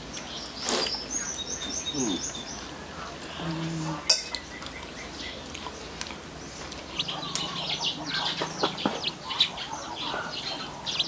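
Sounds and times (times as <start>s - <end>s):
outdoor ambience: 0.0s - 11.0s
small birds chirping: 0.0s - 11.0s.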